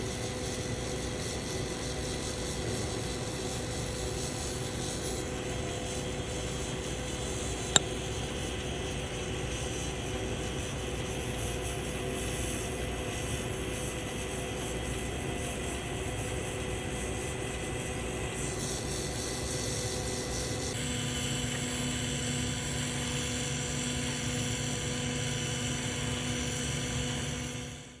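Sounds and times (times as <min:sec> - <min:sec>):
welding equipment hum: 0:00.0 - 0:28.0
welding torch hissing: 0:00.0 - 0:28.0.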